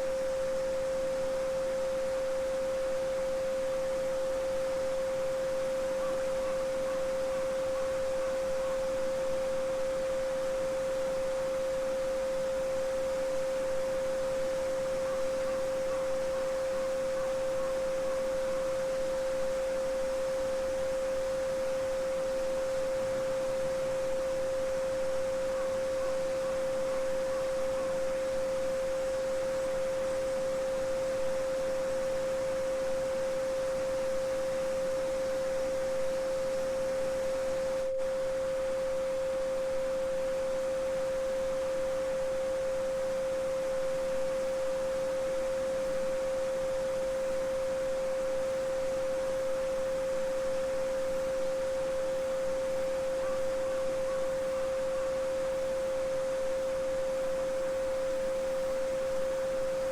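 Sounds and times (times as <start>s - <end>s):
steady sine tone: 0.0s - 59.9s.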